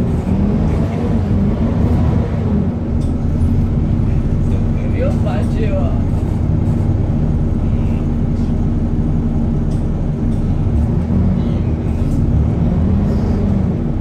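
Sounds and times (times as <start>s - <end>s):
bus diesel engine humming: 0.0s - 14.0s.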